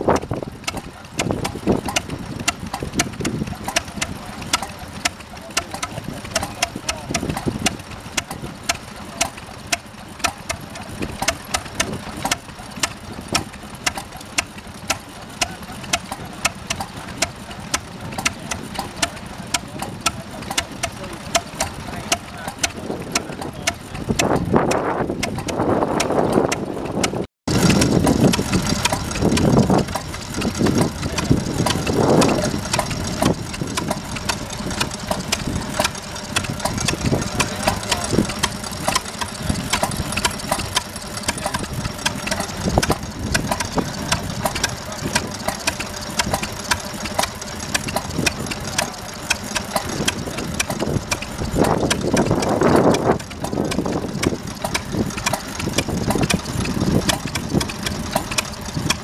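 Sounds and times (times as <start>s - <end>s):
stationary engines running: 0.0s - 59.0s
sharp ticks: 0.1s - 59.0s.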